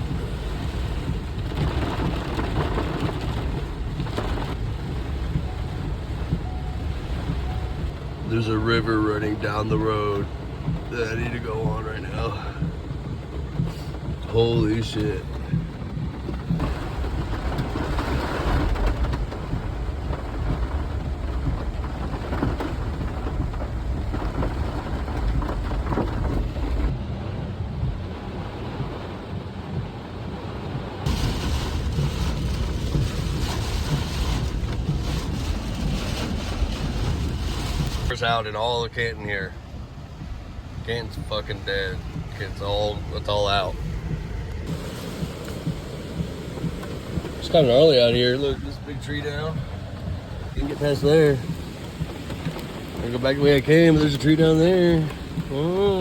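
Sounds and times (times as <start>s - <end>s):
floodwater rushing: 0.0s - 56.0s
rain: 0.0s - 56.0s
vehicle rumble: 0.0s - 56.0s
wet tyre hiss: 4.6s - 25.5s, 31.1s - 56.0s.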